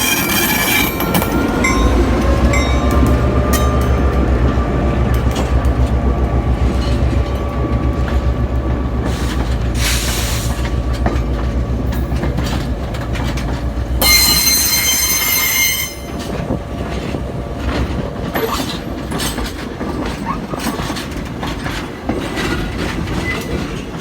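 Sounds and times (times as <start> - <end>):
wheels clicking over rail joints: 0.0 - 24.0
diesel locomotive throb: 1.0 - 23.0.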